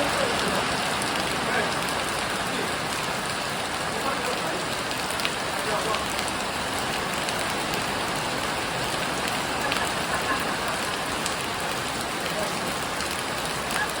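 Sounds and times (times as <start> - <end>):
heavy rain falling: 0.0 - 14.0
water pouring off roof: 0.0 - 14.0.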